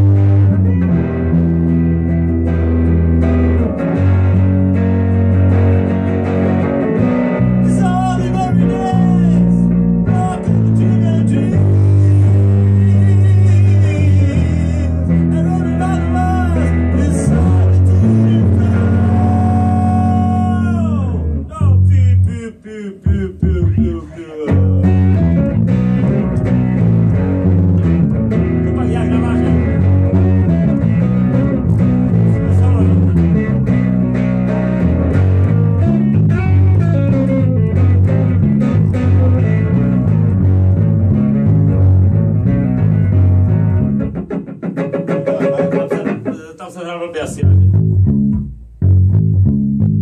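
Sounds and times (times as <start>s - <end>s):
electric bass riff: 0.0s - 46.6s, 47.2s - 50.0s
electric guitar riff: 0.0s - 46.6s, 47.2s - 50.0s.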